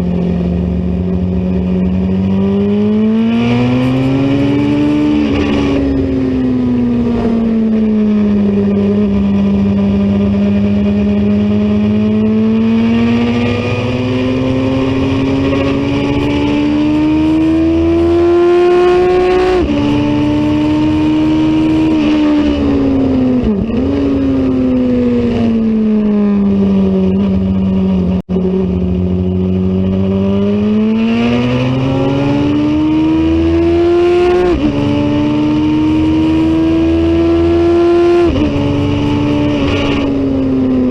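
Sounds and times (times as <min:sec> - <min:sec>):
race motorcycle engine revving: 0:00.0 - 0:40.9.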